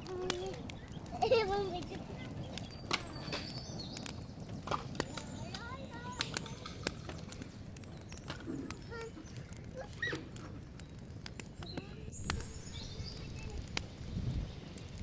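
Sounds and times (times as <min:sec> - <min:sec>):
bird chirps: 0:00.4 - 0:01.2, 0:02.2 - 0:15.0.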